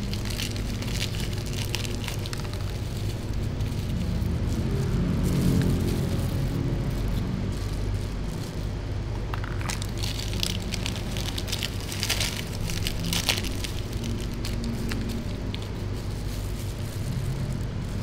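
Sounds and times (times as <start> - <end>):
plastic wrappers crinkling: 0.0 - 18.0
steady low hum: 0.0 - 18.0.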